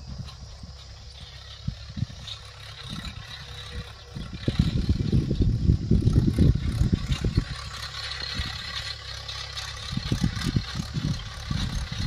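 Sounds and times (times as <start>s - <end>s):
tractor diesel engine rumbling: 0.0s - 12.0s.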